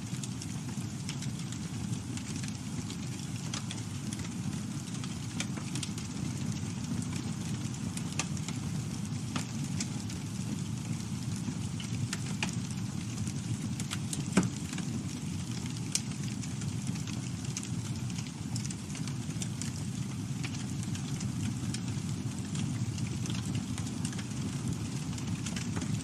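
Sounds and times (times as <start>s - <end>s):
campfire crackling and popping: 0.1s - 26.0s.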